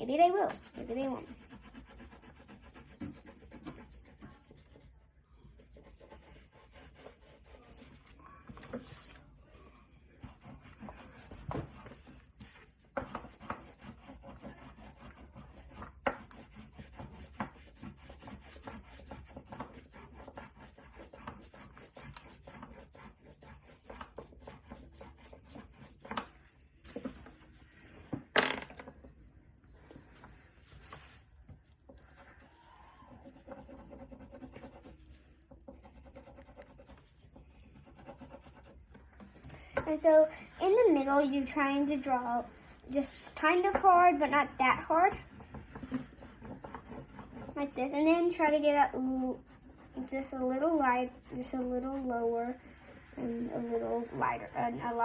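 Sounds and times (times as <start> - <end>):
crayon scribbling on paper: 0.0 - 27.6, 30.0 - 39.0, 39.8 - 55.0.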